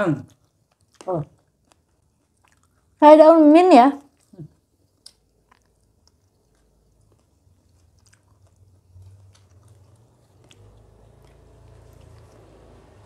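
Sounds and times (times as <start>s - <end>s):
close-up chewing: 0.0s - 13.0s.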